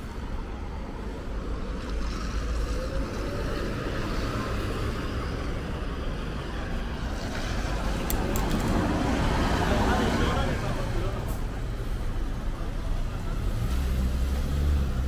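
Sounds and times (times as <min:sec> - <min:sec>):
road traffic: 0:00.0 - 0:15.0
vehicle engine rumbling: 0:00.0 - 0:15.0.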